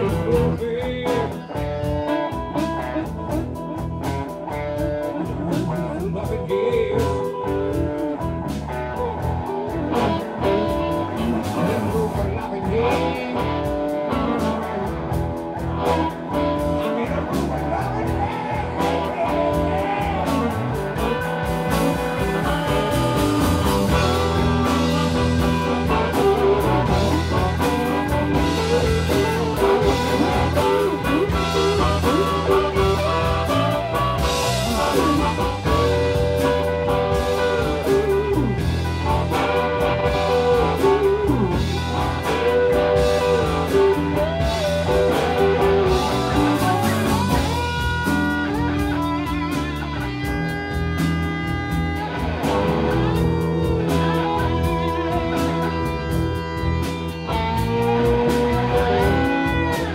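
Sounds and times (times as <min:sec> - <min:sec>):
bass: 0:00.0 - 0:59.9
drums: 0:00.0 - 0:59.9
electric guitar lead: 0:00.0 - 0:59.9.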